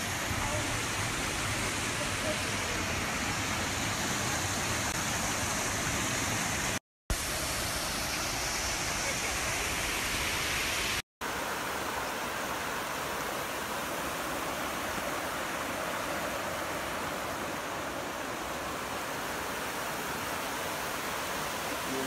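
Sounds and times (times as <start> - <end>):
creek water rushing over rocks: 0.0 - 22.0.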